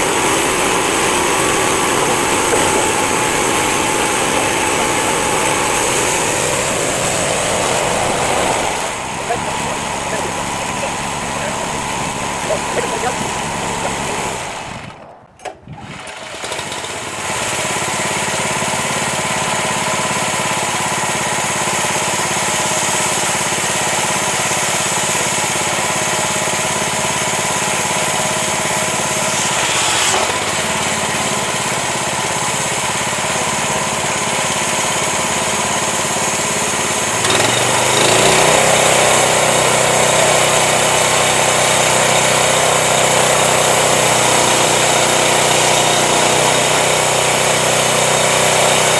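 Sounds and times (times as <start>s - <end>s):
band sawmill running: 0.0s - 48.9s.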